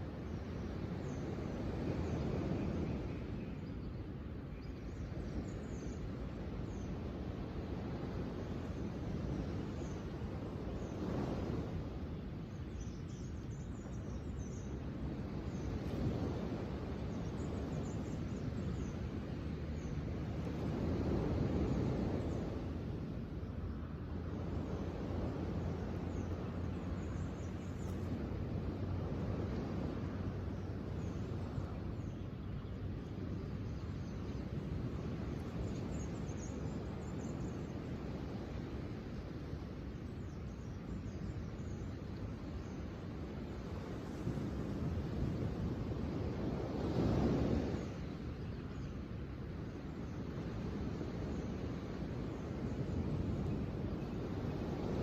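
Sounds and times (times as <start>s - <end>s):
low rush of outdoor noise: 0.0s - 55.0s.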